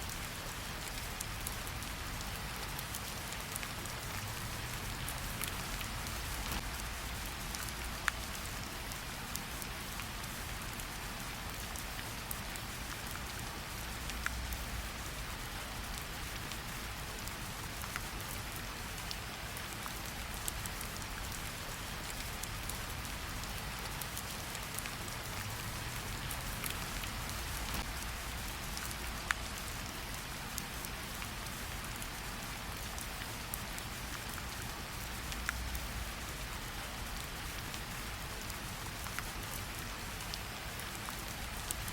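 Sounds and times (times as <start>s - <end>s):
steady rainfall: 0.0s - 41.9s
raindrop ticks: 0.8s - 14.8s, 15.8s - 41.9s.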